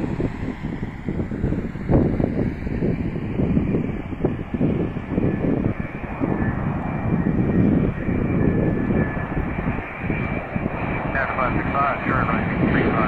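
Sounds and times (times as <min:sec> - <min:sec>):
faint high jet whine: 0:00.0 - 0:13.0
jet engines rushing overhead: 0:00.0 - 0:13.0.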